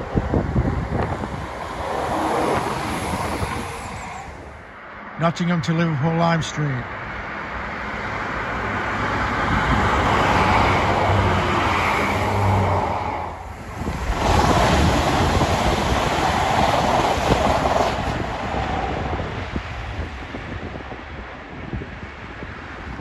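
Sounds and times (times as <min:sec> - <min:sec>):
train rushing noise: 0:00.0 - 0:05.2, 0:06.9 - 0:23.0
diesel train passing: 0:00.0 - 0:23.0.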